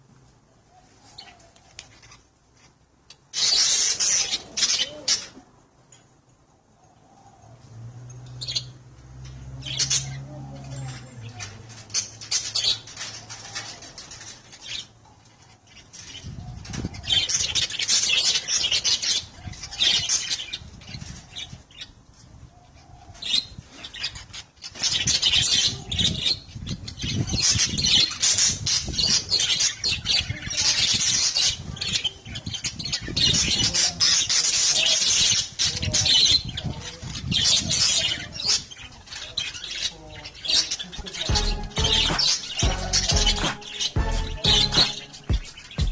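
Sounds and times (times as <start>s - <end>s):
birds squawking and chattering: 0.4s - 5.8s, 6.5s - 45.9s.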